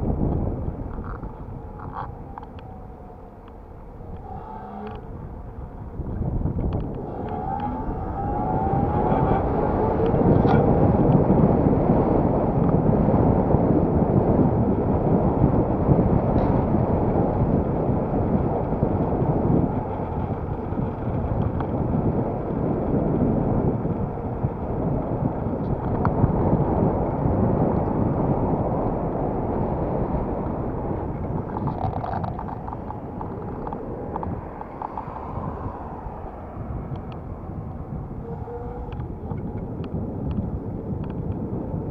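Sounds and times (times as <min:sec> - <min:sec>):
road and traffic noise: 0:00.0 - 0:41.9
wind rushing over microphone: 0:00.0 - 0:41.9.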